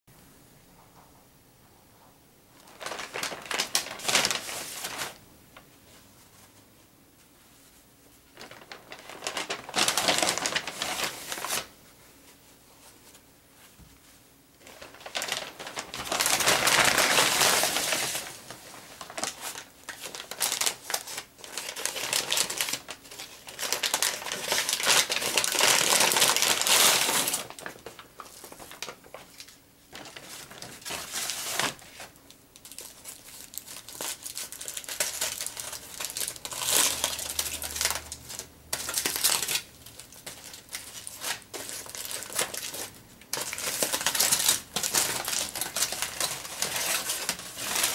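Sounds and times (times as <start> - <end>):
aluminium foil crinkling: 2.6 - 5.7, 8.2 - 11.7, 14.6 - 47.9
paper bag rustling: 2.6 - 6.6, 7.6 - 47.9.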